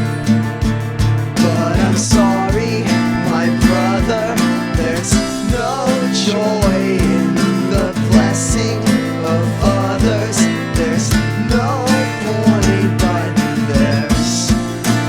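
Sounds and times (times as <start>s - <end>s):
band playing guitars over a beat: 0.0s - 15.0s
drum hits: 0.0s - 15.0s.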